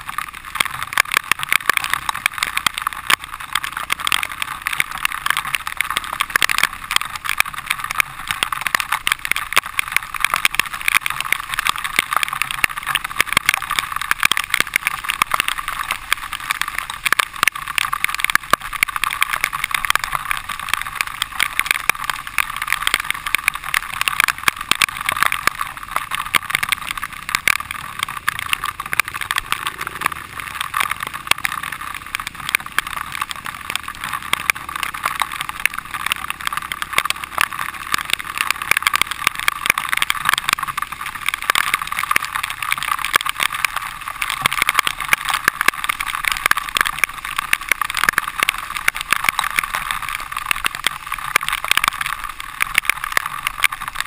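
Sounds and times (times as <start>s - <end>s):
dirt bike riding: 0.0s - 54.0s
rushing noise with crackles: 0.0s - 54.0s.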